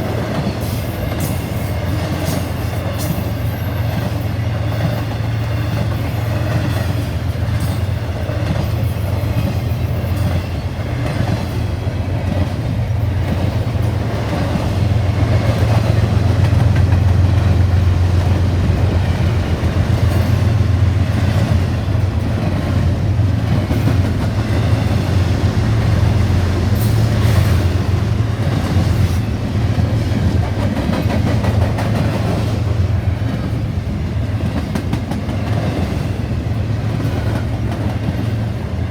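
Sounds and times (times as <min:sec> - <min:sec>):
train wheels clattering over track: 0:00.0 - 0:38.9.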